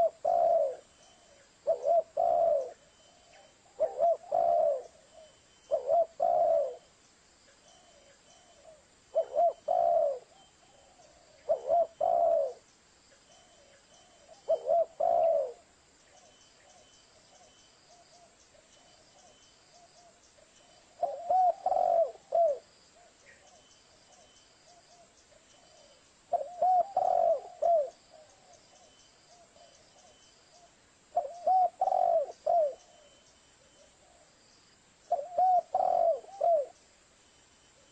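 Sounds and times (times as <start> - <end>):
dove cooing: 0.0 - 6.9, 7.7 - 12.7, 13.4 - 34.4, 35.1 - 36.8
faint high chirping: 0.0 - 37.9.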